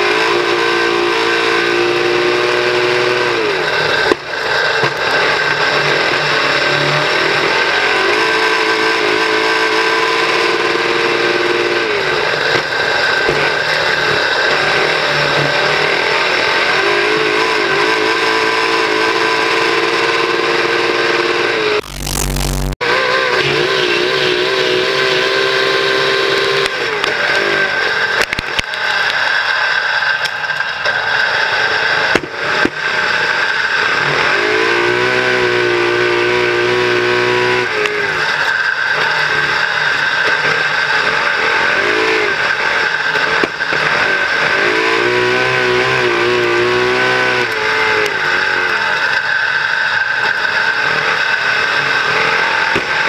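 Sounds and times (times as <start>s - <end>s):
race car engine running hard: 0.0s - 53.0s.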